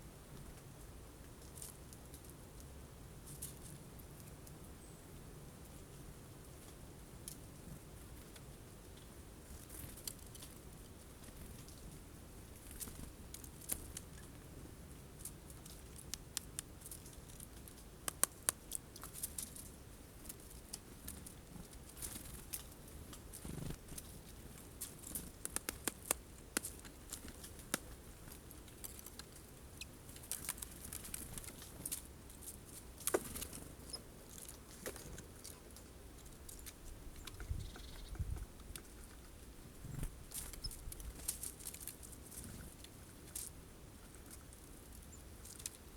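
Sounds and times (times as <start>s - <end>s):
birds pecking at seeds: 5.7s - 45.9s.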